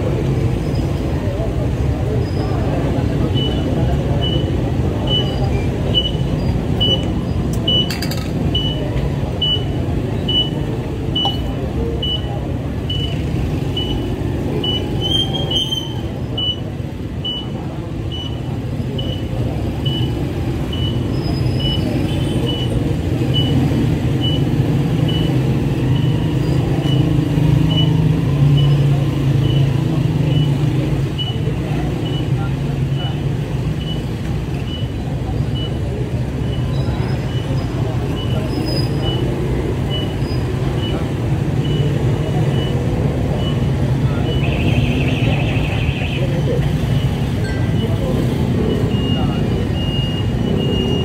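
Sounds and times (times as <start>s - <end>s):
vehicle engines passing: 0.0s - 51.0s.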